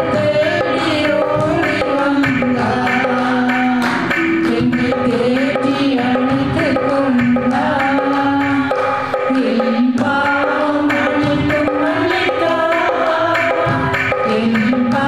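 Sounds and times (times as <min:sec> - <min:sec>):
electronic drum beat: 0:00.0 - 0:15.0
keyboard: 0:00.0 - 0:15.0
woman singing into microphone: 0:00.0 - 0:15.0.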